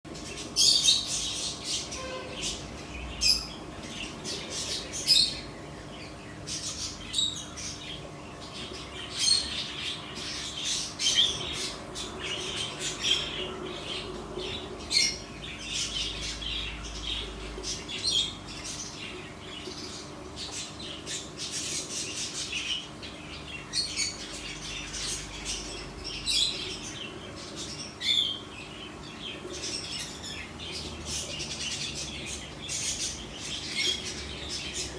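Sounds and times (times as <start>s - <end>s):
faint steady hum: 0.1s - 34.9s
small birds chirping: 0.1s - 34.9s.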